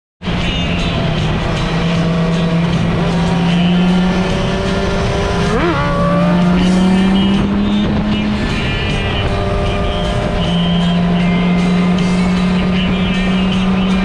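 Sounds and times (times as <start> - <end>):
vehicle engine running: 0.3 - 14.0.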